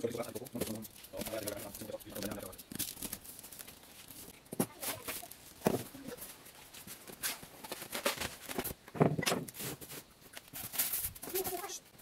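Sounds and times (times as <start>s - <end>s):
cardboard and styrofoam rustling: 0.0s - 11.9s.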